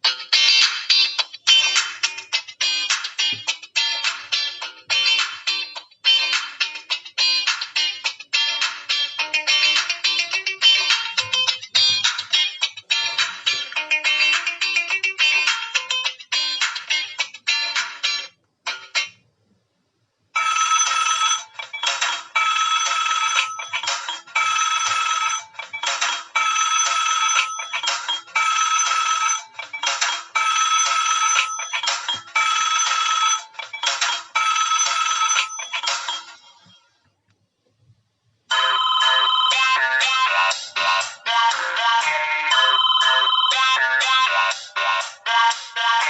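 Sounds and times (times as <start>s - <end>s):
phone ringtone melody: 0.1s - 19.2s, 20.4s - 37.0s, 38.5s - 46.0s.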